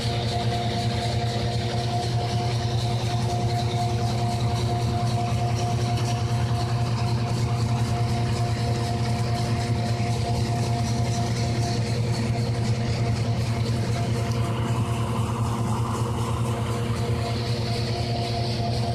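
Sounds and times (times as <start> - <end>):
low engine drone: 0.0 - 18.9
thresher whining tones: 0.0 - 18.9.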